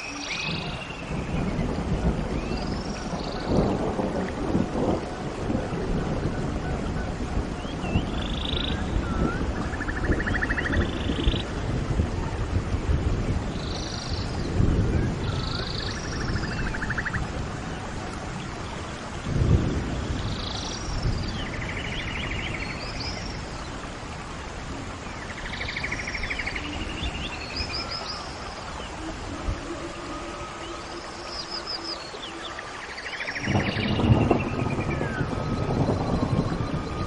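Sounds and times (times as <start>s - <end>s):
songbirds calling and trilling: 0.0s - 11.6s, 12.3s - 37.0s.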